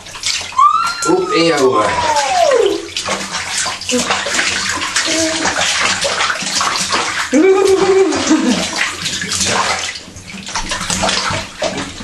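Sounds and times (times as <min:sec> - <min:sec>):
bathwater splashing: 0:00.0 - 0:12.0.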